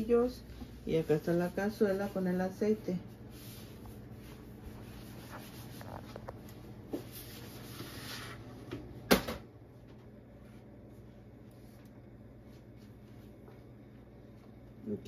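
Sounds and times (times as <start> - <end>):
faint steady hum and hiss: 0.0 - 15.0.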